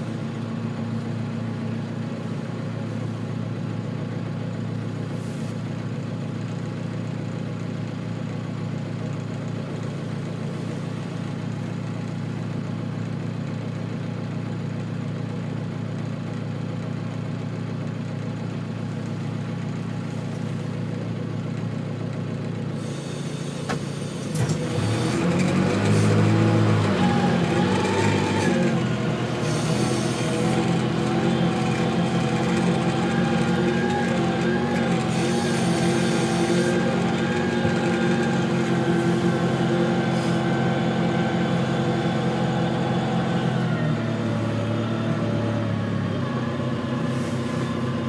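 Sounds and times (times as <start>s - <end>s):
tractor engine idling: 0.0s - 48.0s.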